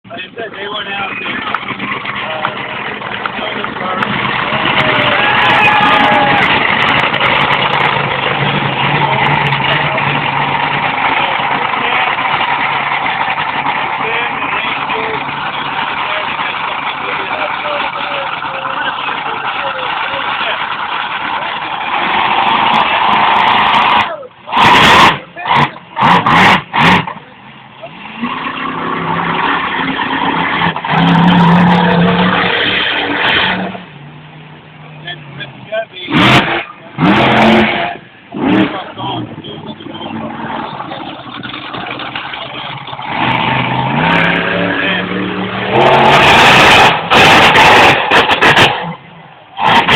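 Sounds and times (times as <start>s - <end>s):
monster truck engine running: 0.1s - 49.9s.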